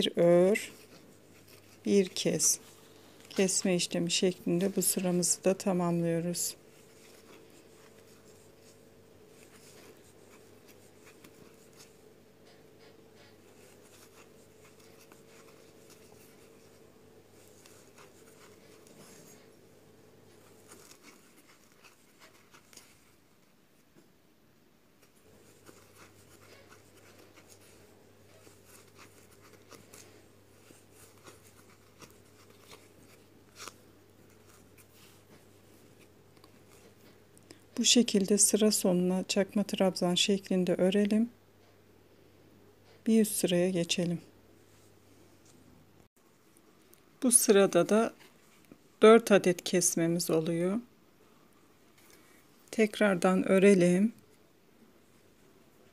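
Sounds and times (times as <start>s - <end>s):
faint yarn rustling: 0.0s - 24.1s, 24.9s - 41.8s, 42.8s - 55.9s
steady low hum: 0.0s - 55.9s.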